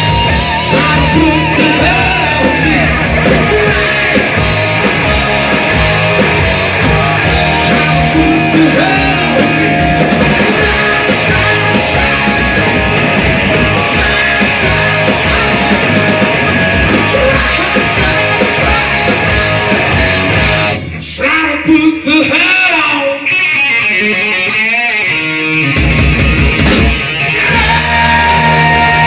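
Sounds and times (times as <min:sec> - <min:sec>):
lead singer: 0:00.0 - 0:24.8, 0:27.2 - 0:29.0
rock band playing live: 0:00.0 - 0:29.0.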